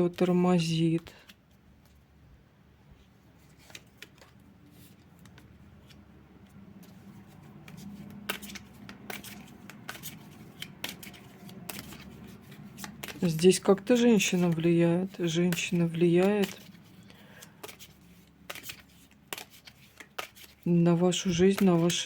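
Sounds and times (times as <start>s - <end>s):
cards being shuffled: 3.0s - 22.0s.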